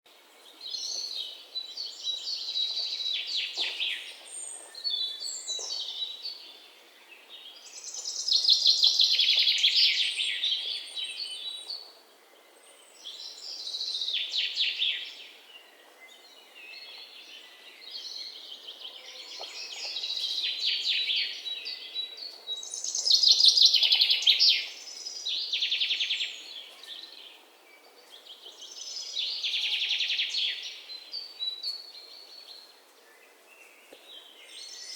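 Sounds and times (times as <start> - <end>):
songbirds trilling and chirping: 0.1 - 34.9.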